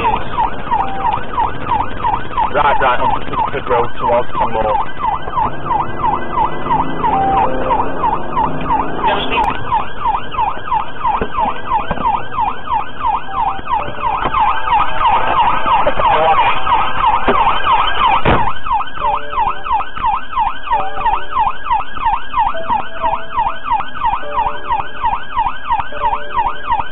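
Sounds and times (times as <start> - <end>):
police siren yelping: 0.0 - 26.9.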